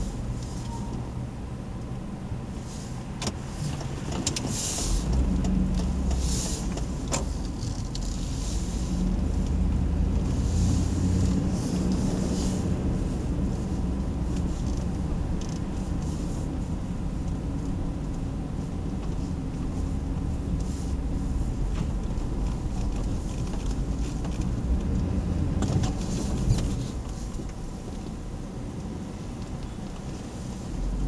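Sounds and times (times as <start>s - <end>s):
car engine rumble from inside: 0.0s - 31.0s.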